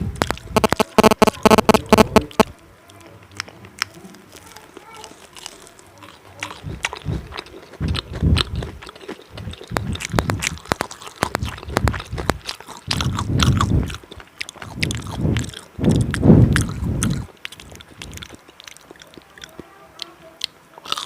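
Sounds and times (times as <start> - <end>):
person chewing food: 0.0 - 21.0
wet mouth clicks: 0.2 - 21.0.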